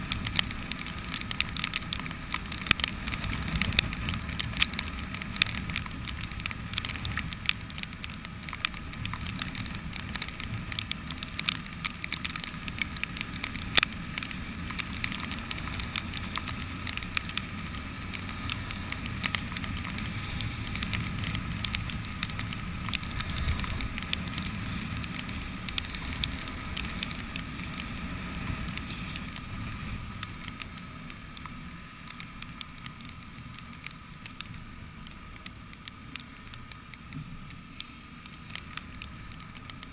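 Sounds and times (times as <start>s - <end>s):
motorcycle engine and road noise: 0.0s - 39.9s
raindrops hitting camera: 0.0s - 39.9s.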